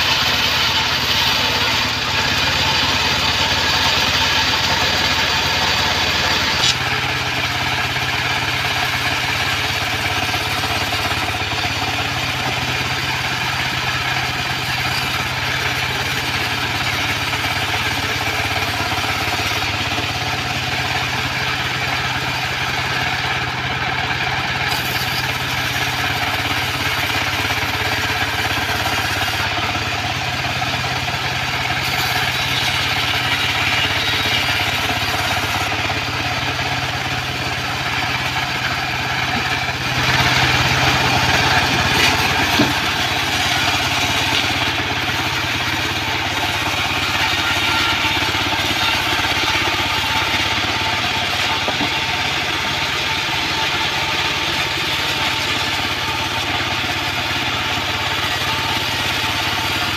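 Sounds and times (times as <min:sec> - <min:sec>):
stationary engine running: 0:00.0 - 0:59.9.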